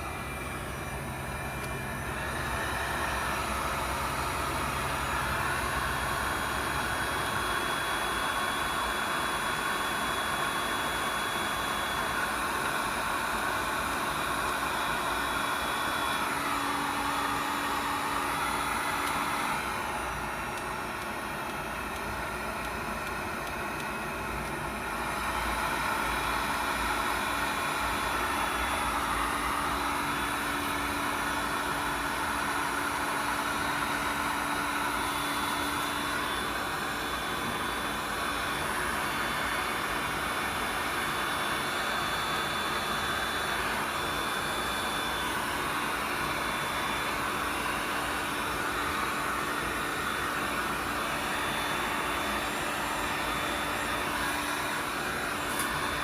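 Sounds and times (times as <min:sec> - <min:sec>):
faint motor hum and whine: 0:00.0 - 0:56.0
heat gun blowing air: 0:00.0 - 0:56.0.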